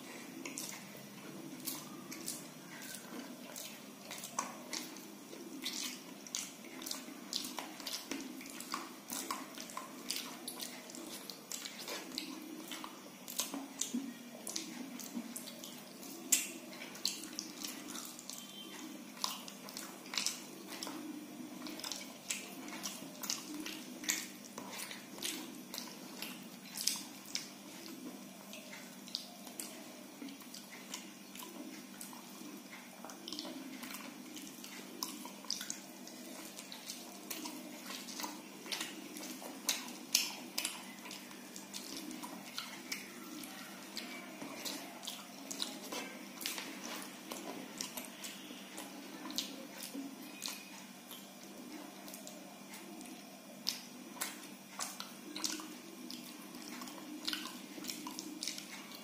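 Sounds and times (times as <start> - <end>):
chewing and wet mouth smacking: 0.0 - 59.0.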